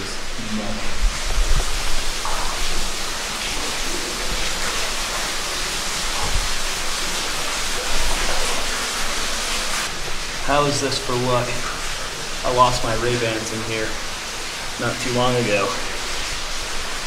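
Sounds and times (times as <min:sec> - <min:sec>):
water flowing in cave: 0:00.0 - 0:17.0.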